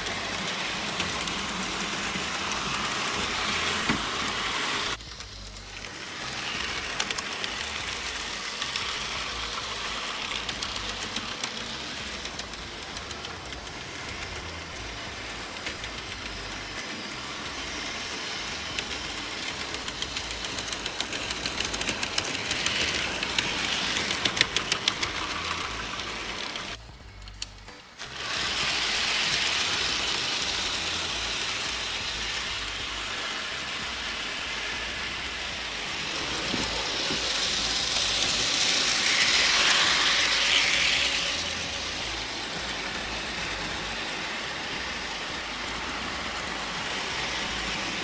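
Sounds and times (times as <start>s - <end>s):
model train motor whirring: 0.0s - 48.0s
wheels clicking over track: 0.0s - 48.0s.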